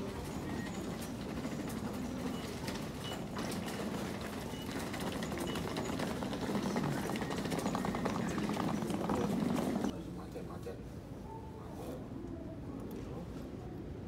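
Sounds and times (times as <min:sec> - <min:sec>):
hubbub of distant voices: 0:00.0 - 0:14.0.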